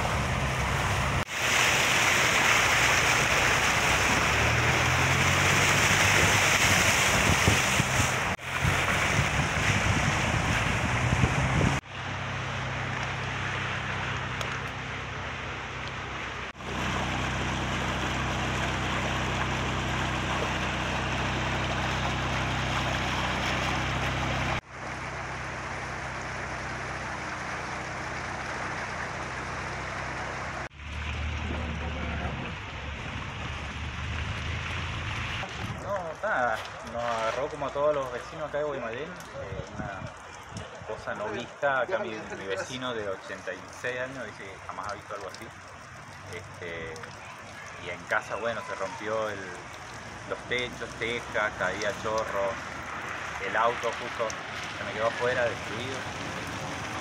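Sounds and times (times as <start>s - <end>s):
water noise: 0.0s - 57.0s
wind: 0.0s - 57.0s.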